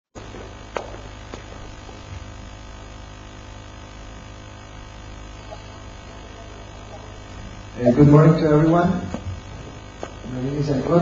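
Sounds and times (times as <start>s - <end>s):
low electrical mains hum: 0.2s - 11.0s.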